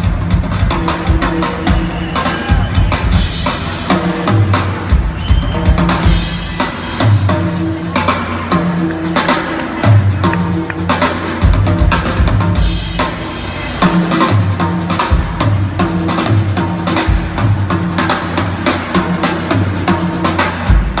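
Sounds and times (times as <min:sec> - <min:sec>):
drum kit solo: 0:00.0 - 0:21.0.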